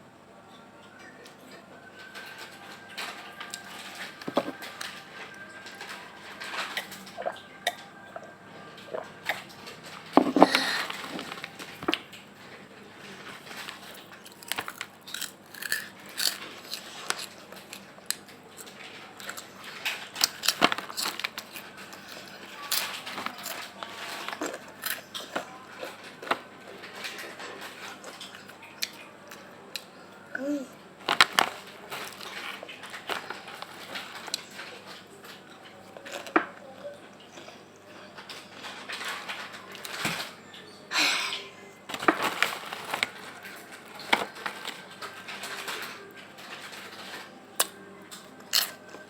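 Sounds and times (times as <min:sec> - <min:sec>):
chewing crispy snack: 0:00.9 - 0:29.9, 0:31.0 - 0:40.7, 0:41.9 - 0:49.0.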